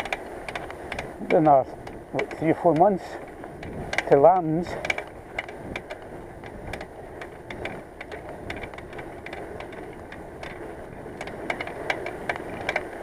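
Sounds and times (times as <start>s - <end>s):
bicycle hub clicking: 0.0s - 13.0s
tyre and wind noise: 0.0s - 13.0s.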